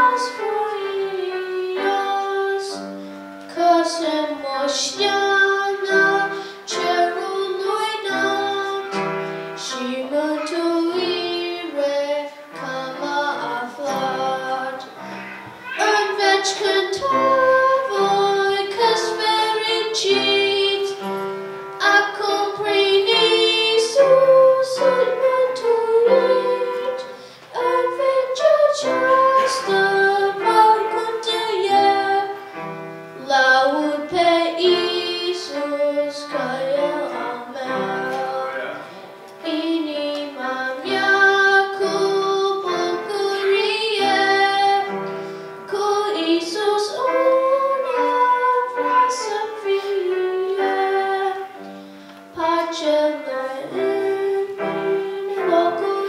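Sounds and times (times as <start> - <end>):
boy singing into microphone: 0.0 - 56.0.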